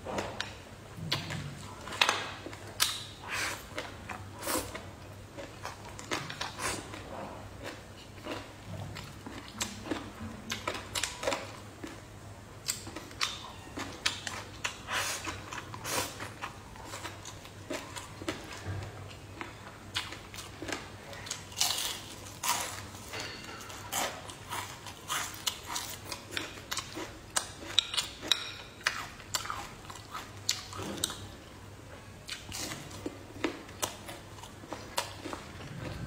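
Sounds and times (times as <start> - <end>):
chewing crunchy food: 0.1 - 31.4, 32.2 - 36.0.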